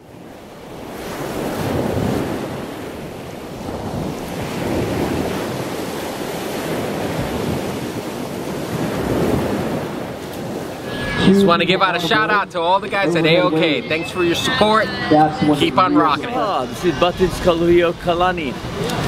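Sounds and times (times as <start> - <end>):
waves washing onto beach: 0.0 - 19.0
wind buffeting microphone: 0.0 - 19.0.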